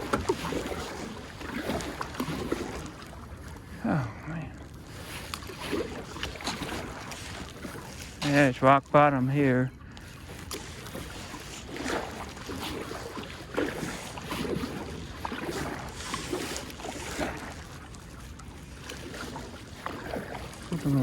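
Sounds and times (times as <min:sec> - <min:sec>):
paddle strokes splashing in water: 0:00.0 - 0:21.0.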